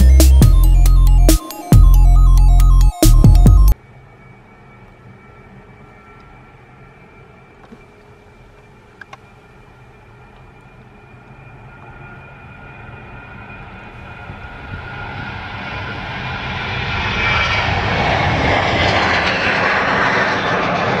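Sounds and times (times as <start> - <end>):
jet engines roaring at take-off: 3.7 - 21.0.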